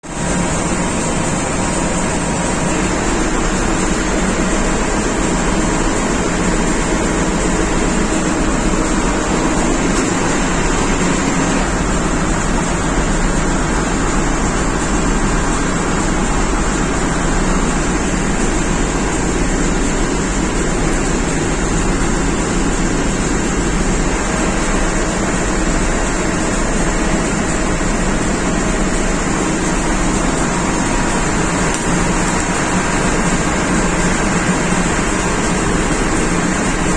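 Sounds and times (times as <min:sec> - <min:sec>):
diesel engines running: 0:00.1 - 0:36.9.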